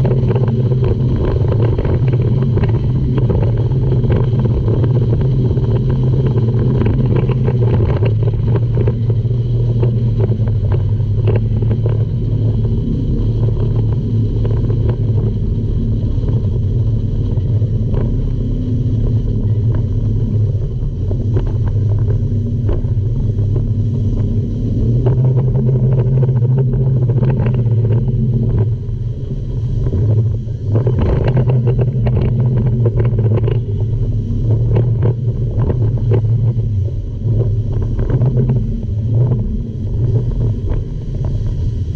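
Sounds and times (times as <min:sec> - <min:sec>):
rushing water and spray: 0:00.0 - 0:41.9
speedboat engines droning: 0:00.0 - 0:41.9
wind on microphone: 0:00.0 - 0:41.9.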